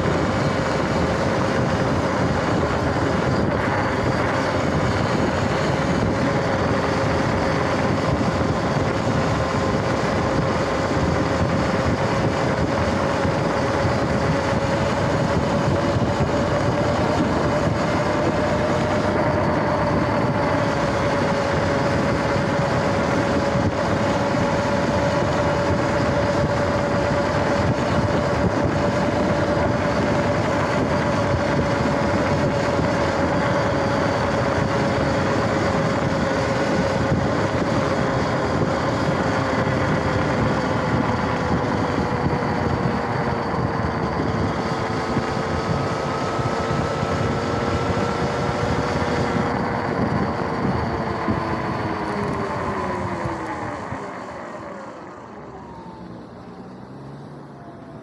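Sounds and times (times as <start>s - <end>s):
electric motor whine: 0.0s - 58.0s
wind and tyre noise: 0.0s - 58.0s.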